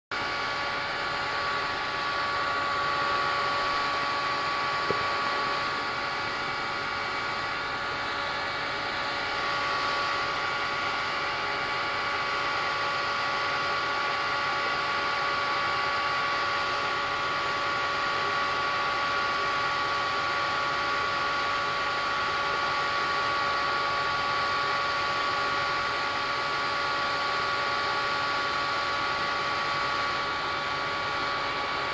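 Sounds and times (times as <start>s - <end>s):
fan compressor whining: 0.2s - 31.9s.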